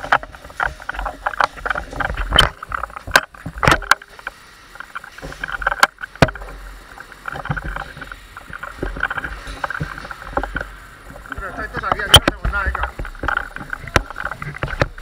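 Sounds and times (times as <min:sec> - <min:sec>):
footsteps: 0:00.0 - 0:15.0.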